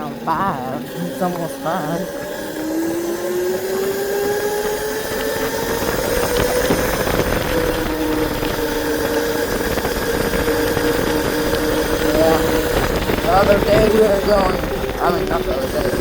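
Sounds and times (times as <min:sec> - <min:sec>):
motorbike engine whine: 0:00.0 - 0:16.0
wind rumble on microphone: 0:02.4 - 0:16.0.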